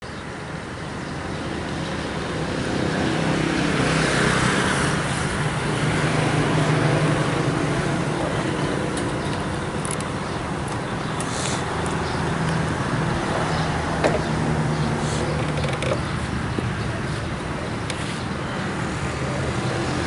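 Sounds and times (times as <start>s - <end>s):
road vehicle rushing: 0.5s - 20.0s.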